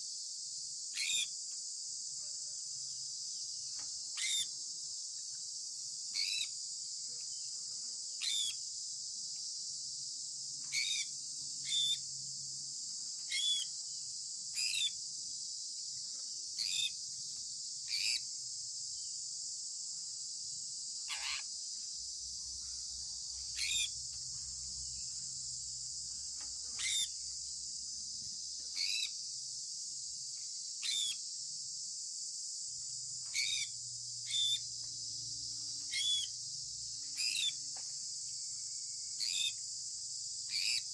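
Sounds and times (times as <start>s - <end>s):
high drone of insects: 0.0s - 40.9s.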